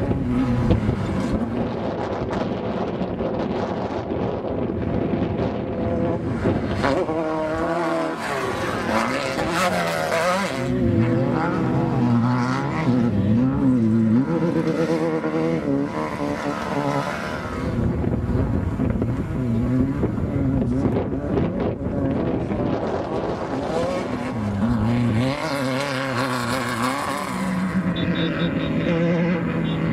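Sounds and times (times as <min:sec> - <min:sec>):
race buggy engines revving: 0:00.0 - 0:29.9.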